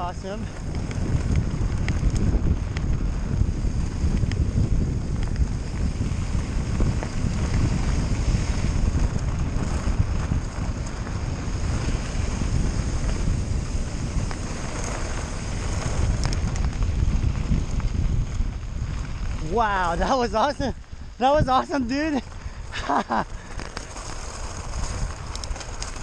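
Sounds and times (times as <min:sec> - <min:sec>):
tyres rolling on gravel: 0:00.0 - 0:26.0
wind buffeting microphone: 0:00.0 - 0:26.0.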